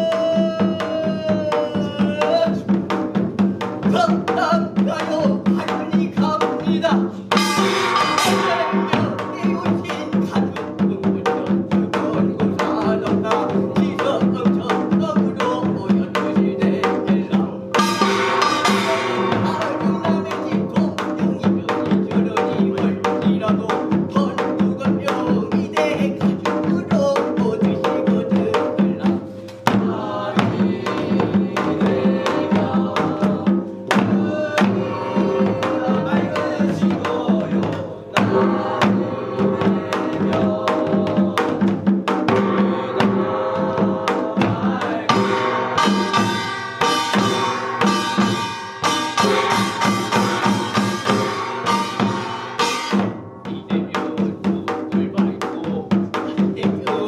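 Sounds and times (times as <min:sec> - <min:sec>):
fast drumming: 0:00.0 - 0:57.0.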